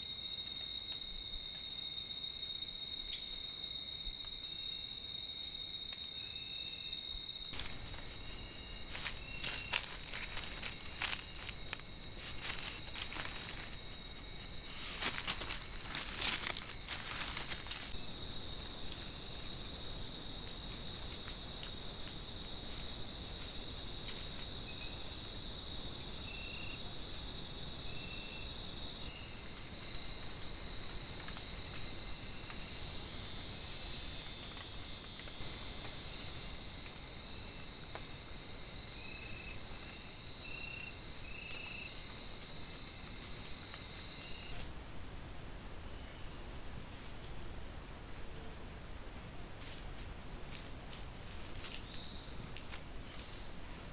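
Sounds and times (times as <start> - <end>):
night insects chorus: 0.0 - 53.9.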